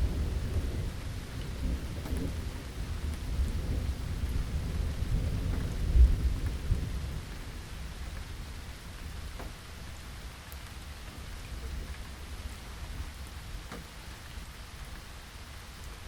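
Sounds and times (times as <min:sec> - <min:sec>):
steady rain on surfaces: 0:00.0 - 0:16.0.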